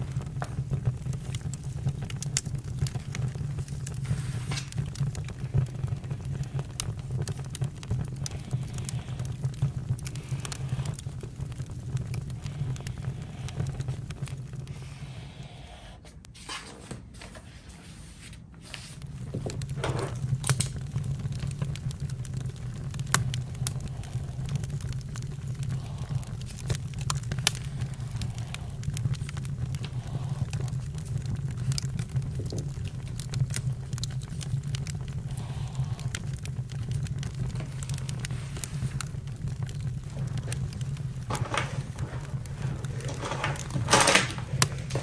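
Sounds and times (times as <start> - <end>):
fire crackling and popping: 0.0 - 15.9, 18.6 - 45.0
low fire rumble: 0.0 - 15.9, 18.6 - 45.0.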